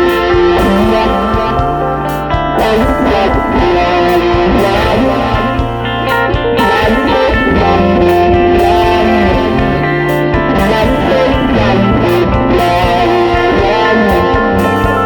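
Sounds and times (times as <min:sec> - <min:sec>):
guitar instrumental music: 0:00.0 - 0:15.0.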